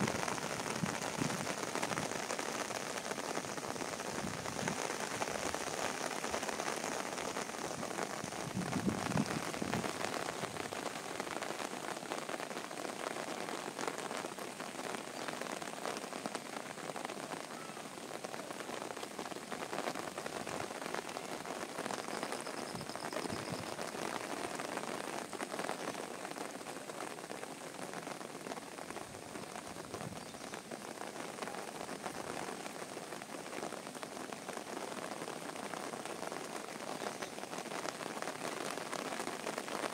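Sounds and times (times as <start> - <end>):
heavy rain on puddles: 0.0 - 39.9.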